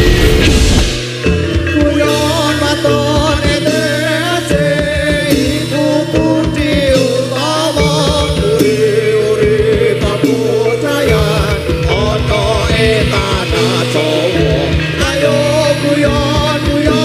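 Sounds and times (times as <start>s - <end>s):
hand drum strokes: 0.0s - 17.0s
metallophones and gongs: 0.0s - 17.0s
person singing: 1.3s - 17.0s.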